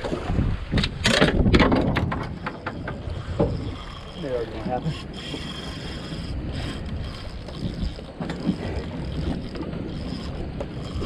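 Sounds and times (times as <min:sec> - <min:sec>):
water noise: 0:00.0 - 0:11.0
wind buffeting microphone: 0:00.0 - 0:11.0.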